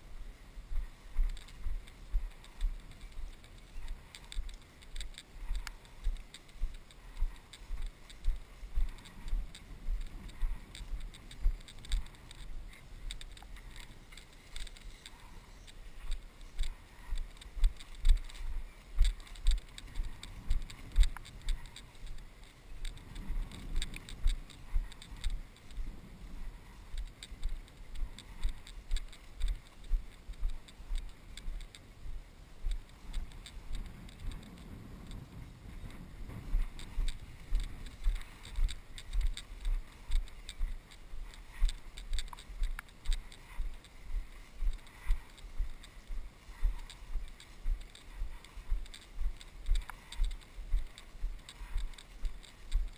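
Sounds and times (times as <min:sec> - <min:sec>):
footsteps through tall grass: 0:00.0 - 0:52.9.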